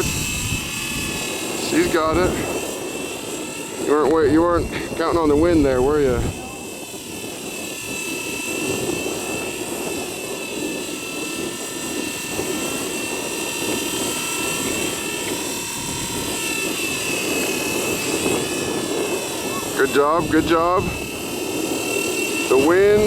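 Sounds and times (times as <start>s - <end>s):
rc helicopter whine: 0.0s - 23.0s.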